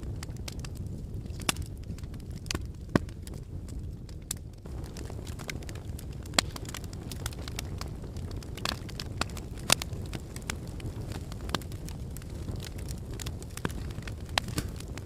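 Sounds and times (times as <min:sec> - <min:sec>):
fire sharp pops: 0:00.0 - 0:15.0
low rumble of flames: 0:00.0 - 0:15.0
wood fire crackling: 0:00.0 - 0:15.0.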